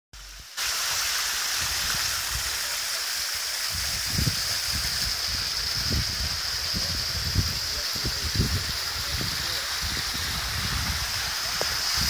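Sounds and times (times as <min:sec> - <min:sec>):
water splashing over rocks: 0:00.6 - 0:12.0.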